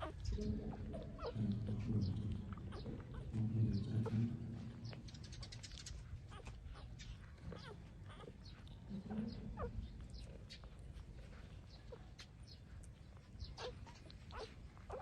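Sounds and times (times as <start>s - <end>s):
puppies squeaking and whimpering: 0.0s - 15.0s.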